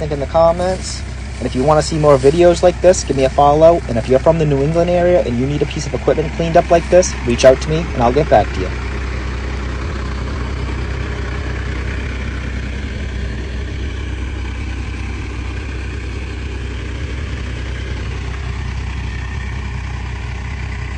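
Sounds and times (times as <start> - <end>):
backhoe engine idling: 0.0 - 20.9.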